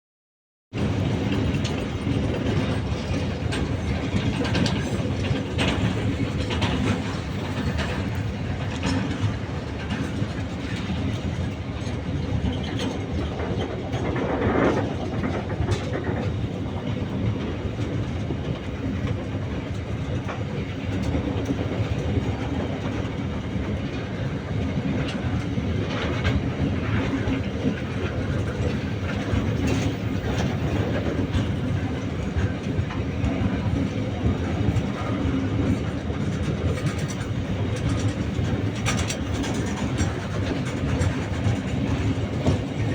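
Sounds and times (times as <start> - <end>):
freight train rumbling: 0.7 - 42.9
wheels clattering over rail joints: 0.8 - 42.9.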